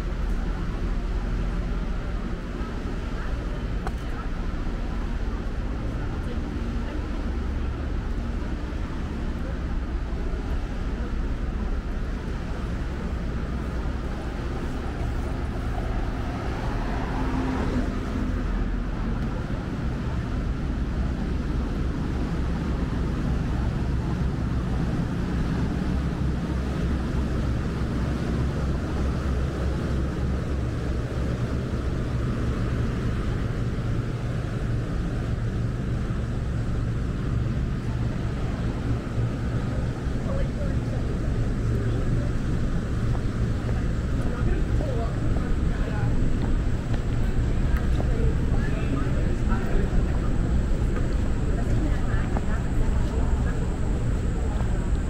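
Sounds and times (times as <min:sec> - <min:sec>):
city street rumble: 0:00.0 - 0:55.0
low hum: 0:00.0 - 0:55.0.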